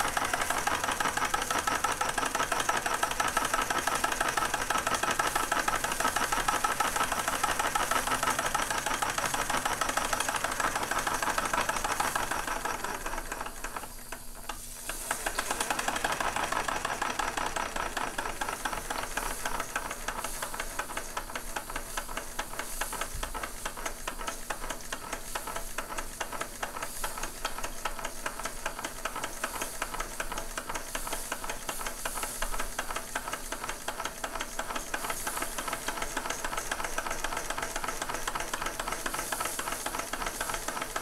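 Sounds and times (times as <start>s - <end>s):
steam hissing: 0.0s - 41.0s
toy steam engine clattering: 0.0s - 41.0s.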